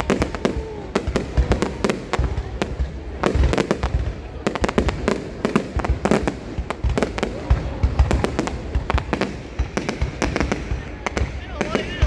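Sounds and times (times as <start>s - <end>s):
deep fireworks booms: 0.0s - 12.0s
fireworks bangs and crackles: 0.0s - 12.0s.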